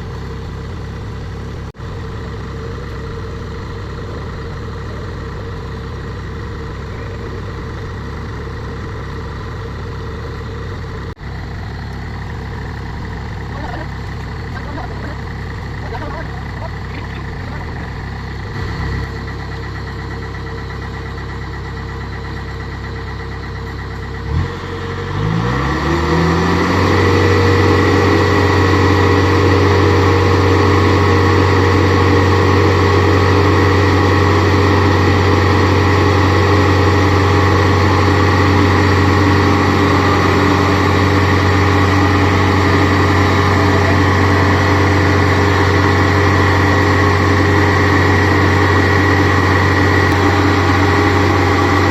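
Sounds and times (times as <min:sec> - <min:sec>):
diesel engine idling and revving: 0:00.0 - 0:51.9.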